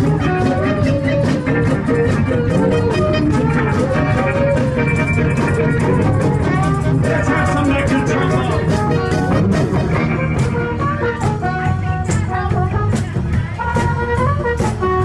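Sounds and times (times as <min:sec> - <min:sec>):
live band playing: 0:00.0 - 0:15.0
saxophones melody: 0:00.0 - 0:15.0.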